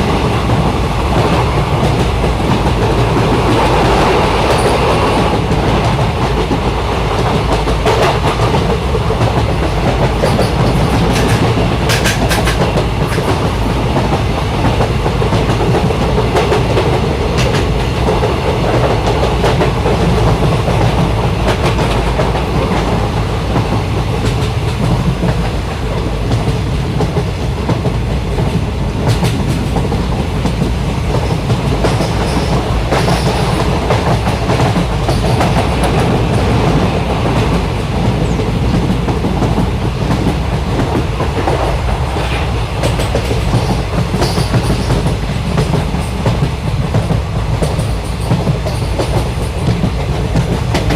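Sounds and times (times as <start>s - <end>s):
clickety-clack over rail joints: 0.0s - 50.9s
train clattering: 0.0s - 50.9s
train wheels rumbling: 0.0s - 50.9s.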